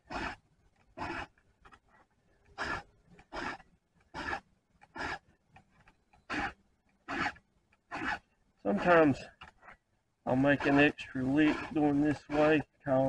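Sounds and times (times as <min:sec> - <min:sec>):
file rasping on saw chain: 0:00.0 - 0:01.4, 0:02.4 - 0:09.7, 0:10.3 - 0:13.0.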